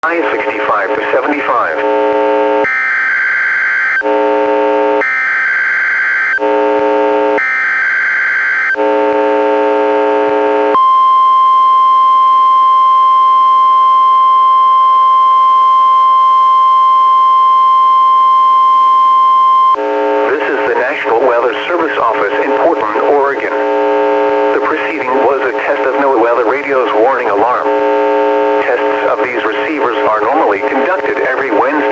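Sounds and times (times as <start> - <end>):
buzzing interference tone: 0.1 - 31.9
steady alarm tone: 1.9 - 30.6.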